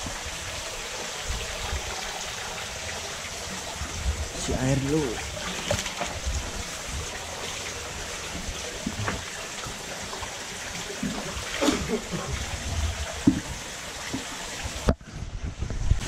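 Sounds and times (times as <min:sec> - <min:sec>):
water sloshing in a bucket: 0:00.0 - 0:15.0.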